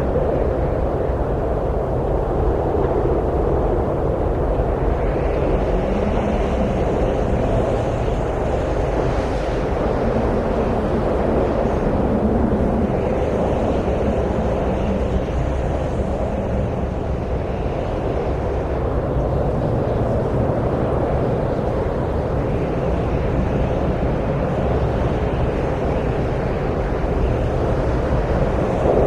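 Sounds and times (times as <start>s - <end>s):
wind rushing: 0.0s - 29.0s.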